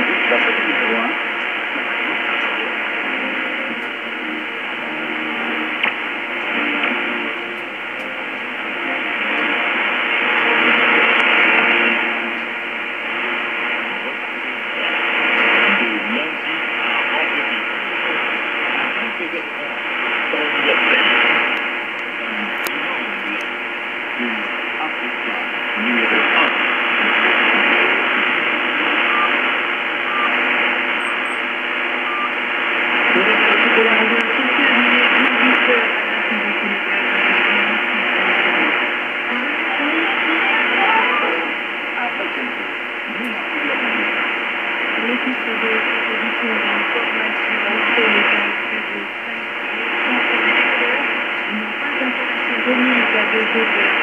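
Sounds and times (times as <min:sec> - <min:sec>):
faint muffled radio broadcast: 0:00.0 - 0:54.0
radio hiss and static: 0:00.0 - 0:54.0.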